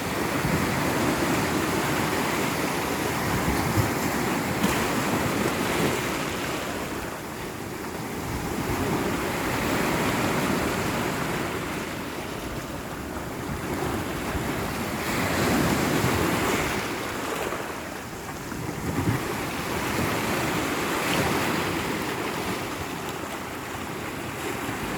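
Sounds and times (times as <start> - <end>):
sea surf washing ashore: 0.0 - 24.9.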